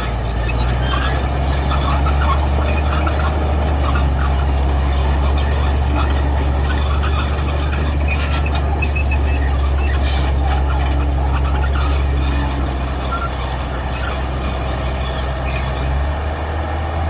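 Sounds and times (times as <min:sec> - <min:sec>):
metallic squeaks and clinks: 0:00.0 - 0:16.0
diesel engine droning: 0:00.0 - 0:17.0.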